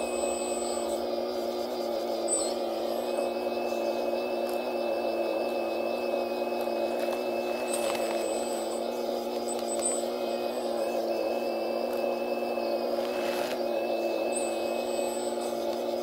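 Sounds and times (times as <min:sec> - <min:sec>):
hydraulic pump motor humming: 0:00.0 - 0:16.0.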